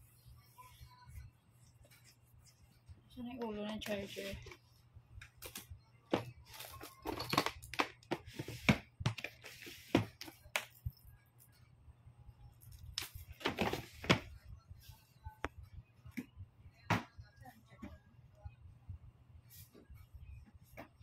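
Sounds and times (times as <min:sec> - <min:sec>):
objects being handled and rummaged: 0:00.0 - 0:18.3.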